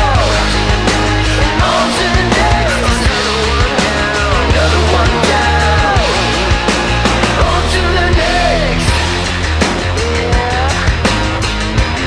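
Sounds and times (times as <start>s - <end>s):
bass line: 0.0s - 12.0s
drum hits: 0.0s - 12.0s
heavy rock music: 0.0s - 12.0s.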